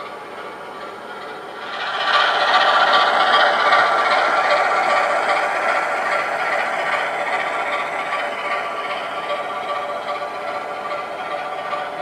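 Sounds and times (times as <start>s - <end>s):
model train wheels rattling: 0.8s - 12.0s.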